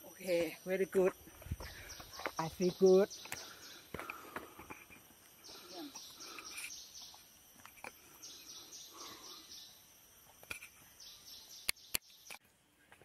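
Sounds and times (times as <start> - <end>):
insects trilling high: 0.0 - 12.4.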